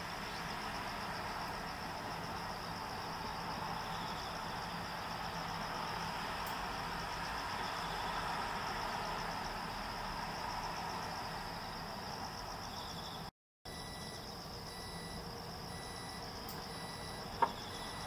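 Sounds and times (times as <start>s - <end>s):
distant traffic hum: 0.0s - 18.0s
insects chirring: 0.0s - 18.0s.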